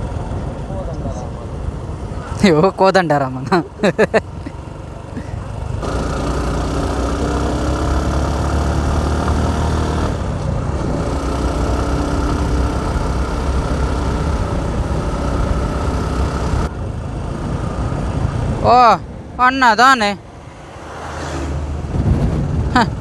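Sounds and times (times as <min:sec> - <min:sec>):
vehicle engine running: 0:00.0 - 0:19.4
road noise: 0:00.0 - 0:23.0.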